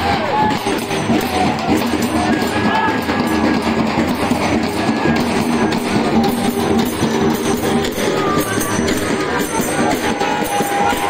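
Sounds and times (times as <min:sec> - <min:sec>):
barrel drums drumming: 0:00.0 - 0:11.0
pitched music: 0:00.0 - 0:11.0.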